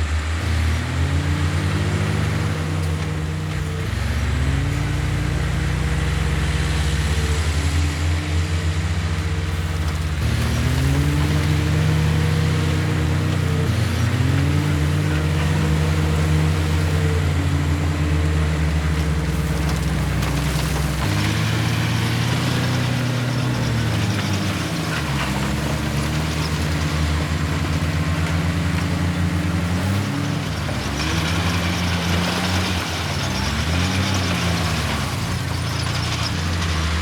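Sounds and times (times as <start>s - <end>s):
heavy diesel engine revving: 0.0s - 37.0s.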